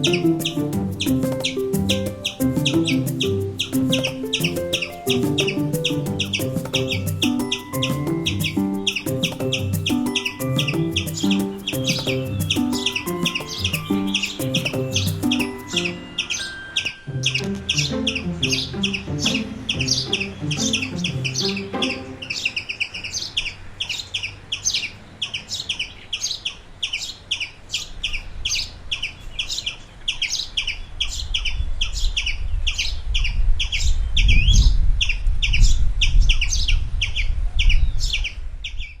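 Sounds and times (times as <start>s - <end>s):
small birds chirping rapidly: 0.0s - 39.0s.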